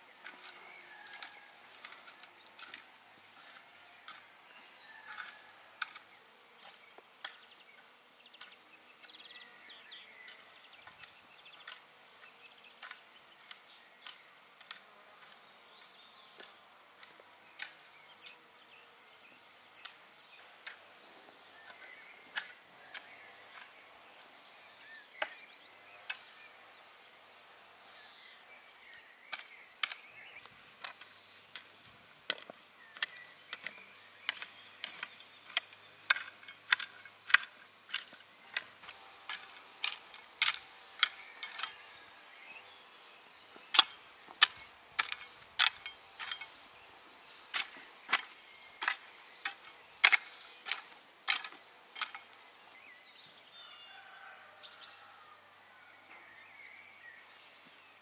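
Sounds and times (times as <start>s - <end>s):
garden hoe chopping and scraping soil: 0.0s - 18.4s, 19.7s - 28.1s, 28.7s - 53.3s.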